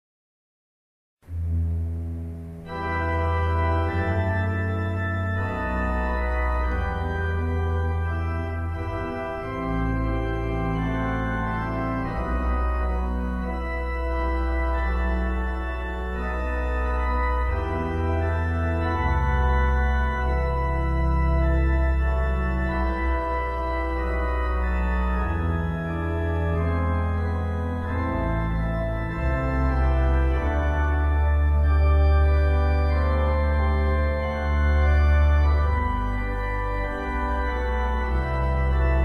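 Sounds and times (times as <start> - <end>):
church organ chords: 1.2 - 39.0.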